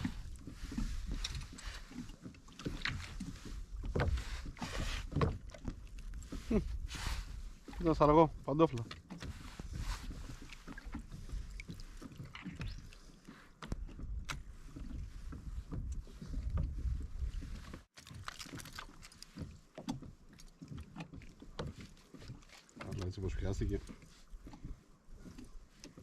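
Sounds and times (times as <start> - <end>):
water sloshing against hull: 0.0 - 26.0.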